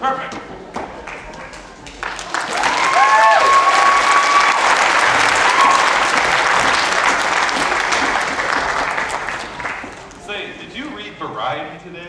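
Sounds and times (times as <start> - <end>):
audience applauding: 0.6 - 10.5.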